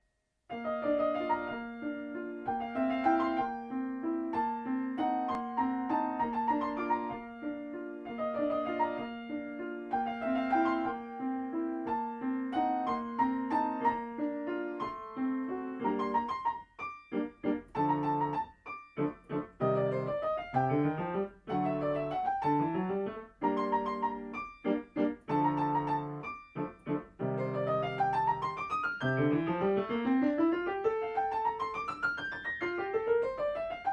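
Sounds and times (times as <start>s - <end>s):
solo piano: 0.5s - 33.9s.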